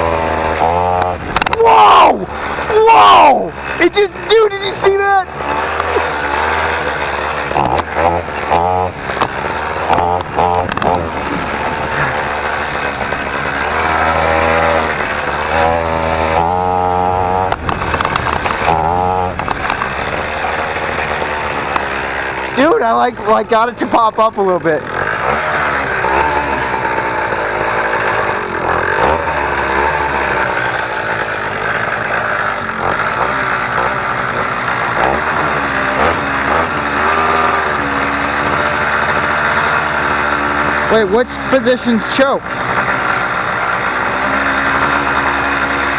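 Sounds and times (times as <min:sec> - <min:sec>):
small motorbike engine revving: 0:00.0 - 0:45.9.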